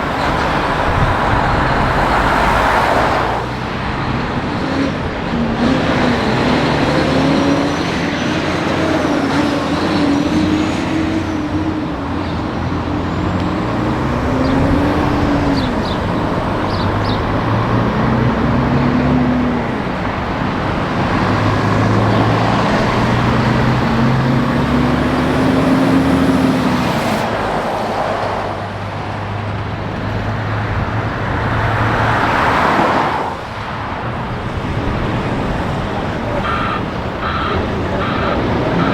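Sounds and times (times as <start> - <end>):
road traffic noise: 0.0 - 38.9
truck diesel engines: 0.0 - 38.9.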